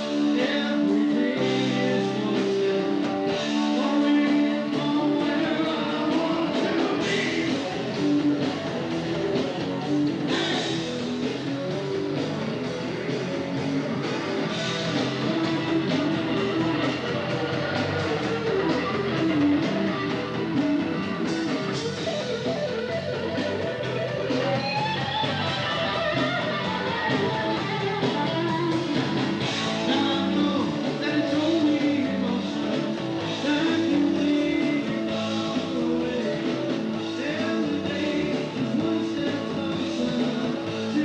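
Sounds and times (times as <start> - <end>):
instrumental rock with guitar: 0.0 - 41.0.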